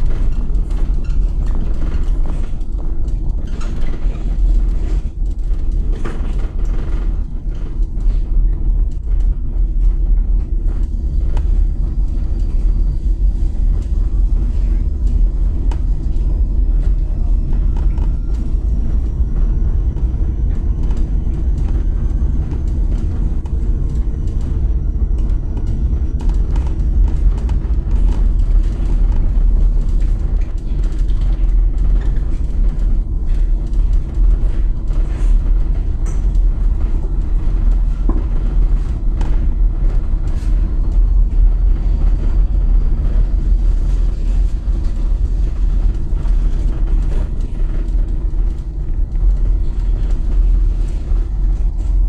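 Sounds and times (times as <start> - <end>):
bus interior rattles and creaks: 0.0 - 52.0.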